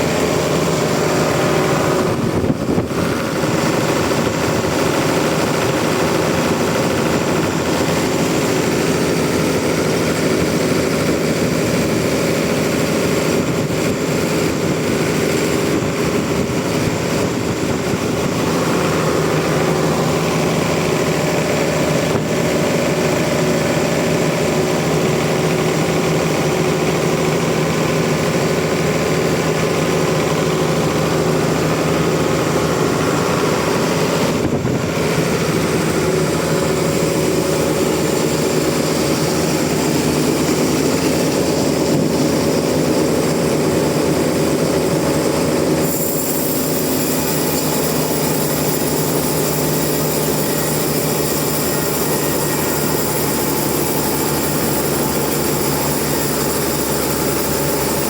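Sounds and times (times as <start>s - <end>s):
sawmill engine drone: 0.0s - 58.0s.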